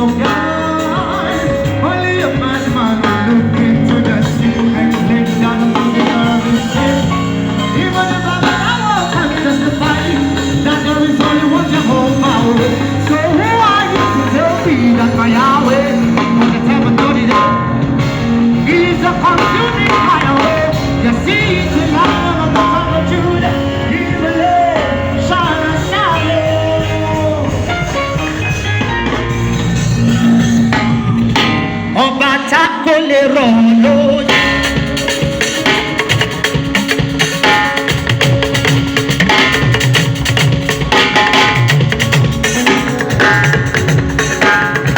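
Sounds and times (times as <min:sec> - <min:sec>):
gospel band music: 0:00.0 - 0:44.9.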